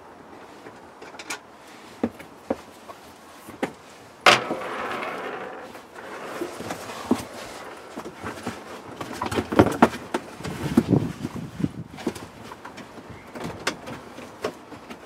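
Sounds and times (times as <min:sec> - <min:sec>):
carpet rustling and scraping: 0:00.4 - 0:15.0.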